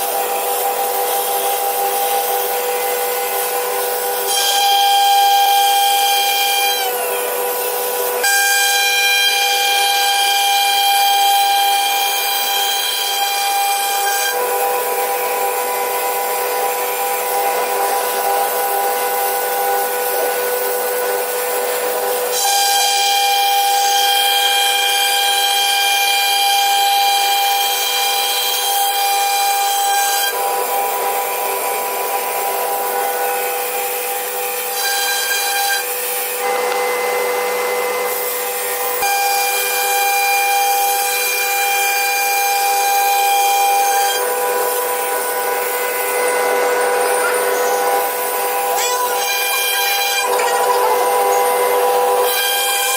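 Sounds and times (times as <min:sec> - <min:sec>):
router spindle whine: 0:00.0 - 0:52.9.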